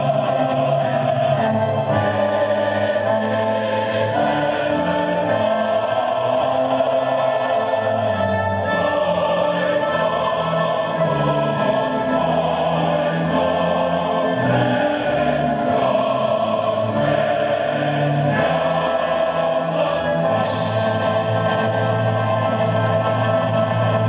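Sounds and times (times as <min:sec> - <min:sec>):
choir singing: 0:00.0 - 0:24.0
orchestral accompaniment: 0:00.0 - 0:24.0.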